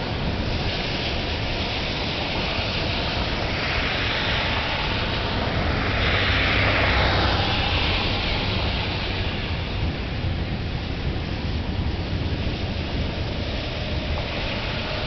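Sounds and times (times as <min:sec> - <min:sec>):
steady rushing rain: 0:00.0 - 0:15.0.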